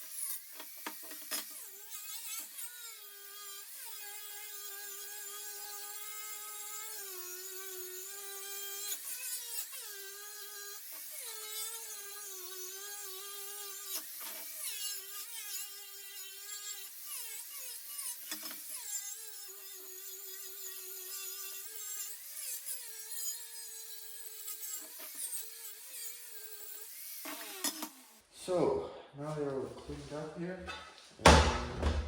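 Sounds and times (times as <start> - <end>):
electric grinder whining on steel: 0.0 - 28.2
grinder scraping metal: 0.0 - 28.2.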